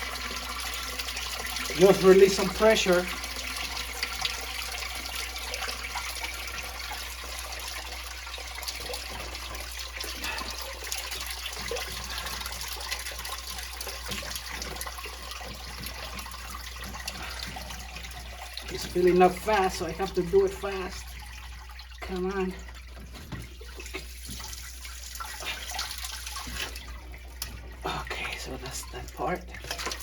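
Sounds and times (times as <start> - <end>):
water trickling into a pit: 0.0 - 30.0.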